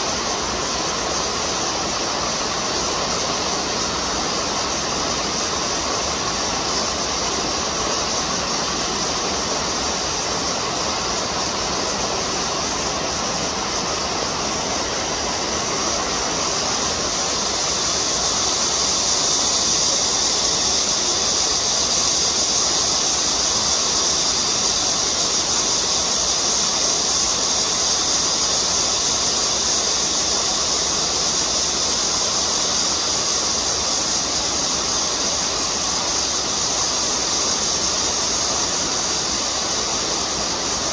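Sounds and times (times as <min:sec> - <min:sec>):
high even hiss: 0:00.0 - 0:40.9
stream water rushing: 0:00.0 - 0:40.9.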